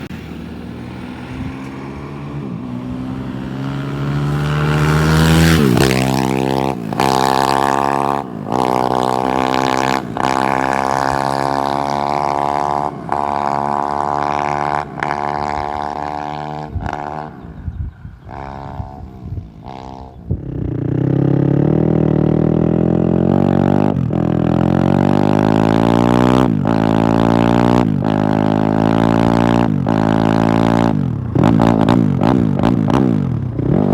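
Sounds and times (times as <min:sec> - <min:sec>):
motorcycle accelerating through gears: 0:00.0 - 0:33.9.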